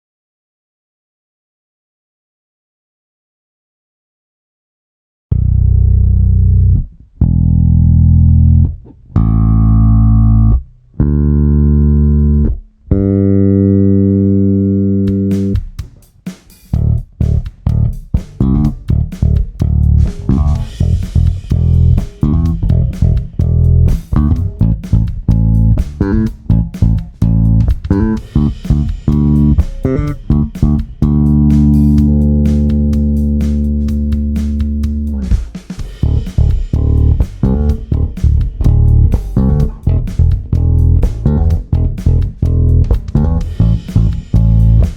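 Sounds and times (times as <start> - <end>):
electric bass notes: 5.3 - 15.7, 16.7 - 44.9.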